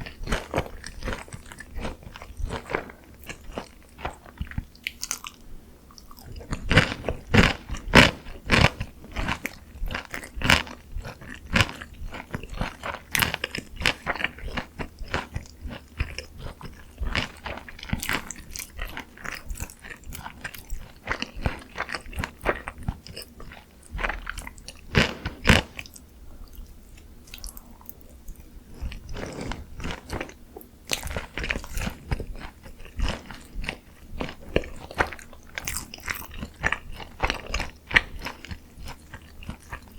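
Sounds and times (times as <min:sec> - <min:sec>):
crunching fried chicken: 0:00.0 - 0:39.9.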